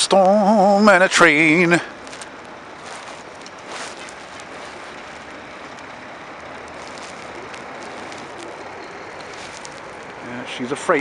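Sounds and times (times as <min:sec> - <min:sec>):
distant freight train: 0:00.4 - 0:11.0.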